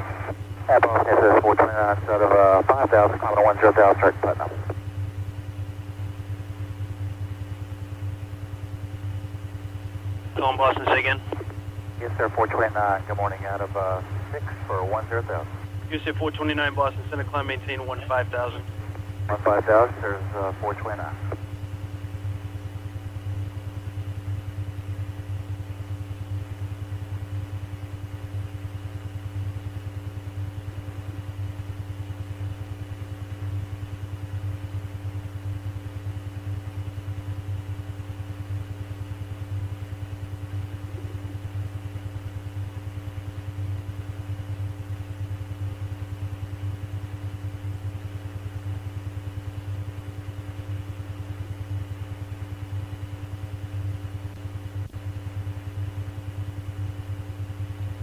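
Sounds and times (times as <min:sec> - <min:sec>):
faint steady tones: 0:00.0 - 0:58.0
low fluttering radio hum: 0:00.0 - 0:58.0.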